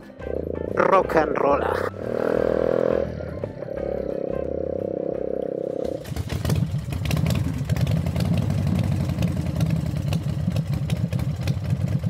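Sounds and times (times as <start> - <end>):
motorcycle engine idling: 1.9 - 12.0.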